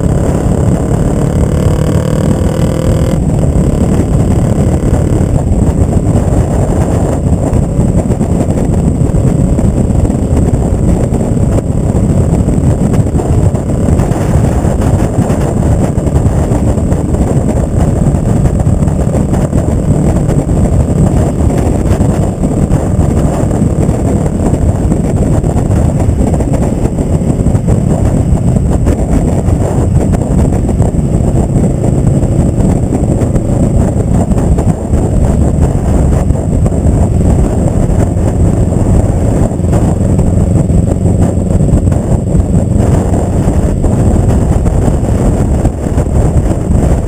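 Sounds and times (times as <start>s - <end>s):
motorcycle engine exhaust note: 0.0s - 47.0s.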